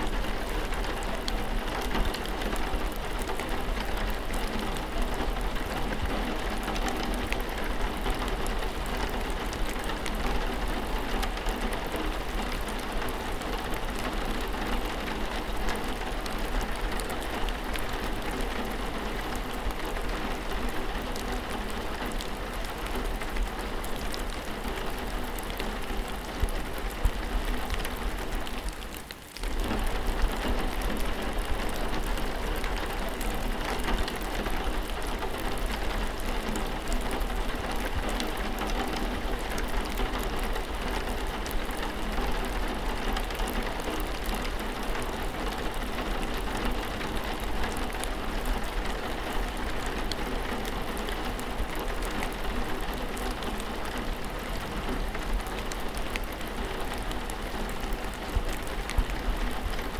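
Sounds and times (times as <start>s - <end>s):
raindrop ticks: 0.0s - 59.9s
steady rainfall: 0.0s - 59.9s.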